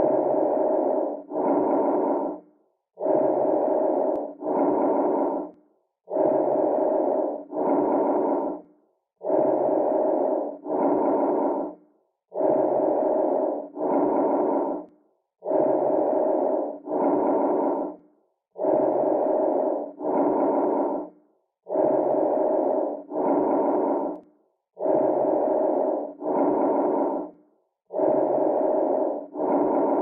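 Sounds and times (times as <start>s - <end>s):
breathing through stethoscope: 0.0s - 30.0s.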